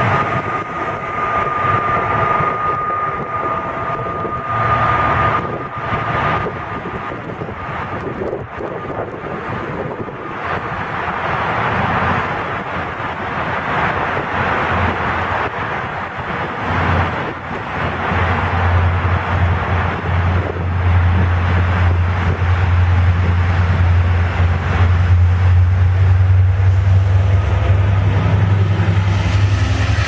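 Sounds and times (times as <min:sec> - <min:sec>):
steady high whine: 0:00.0 - 0:30.0
train wheels rumbling on rails: 0:00.0 - 0:30.0.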